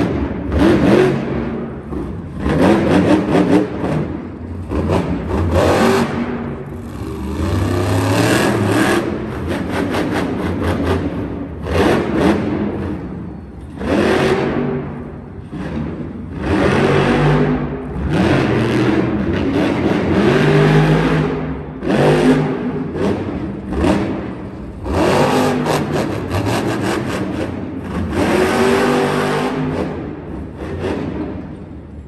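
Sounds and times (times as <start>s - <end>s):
truck engine revving hard: 0.0s - 31.6s.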